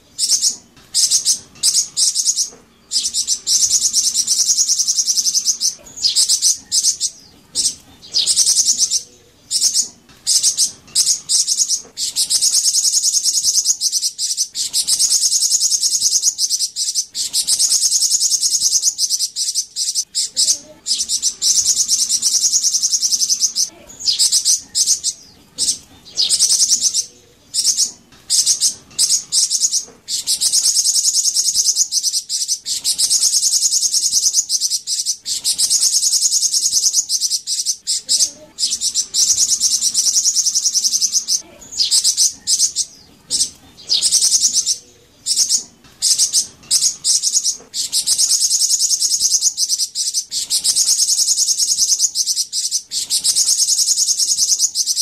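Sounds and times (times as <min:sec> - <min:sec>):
bird singing high buzzy trills: 0:00.0 - 0:55.0.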